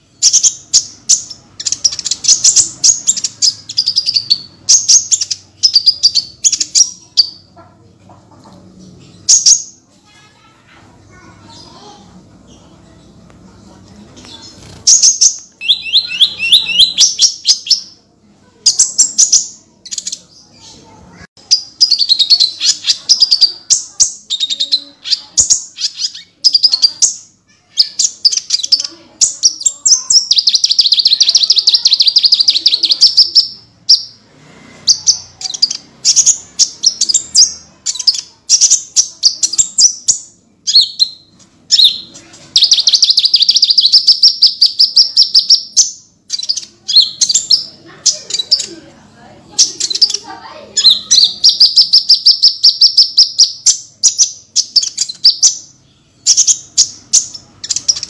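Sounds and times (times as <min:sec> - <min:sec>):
small bird singing rapid trills: 0:00.0 - 0:07.5, 0:14.2 - 0:18.0, 0:18.6 - 0:34.2, 0:34.8 - 0:48.8, 0:49.5 - 0:58.0.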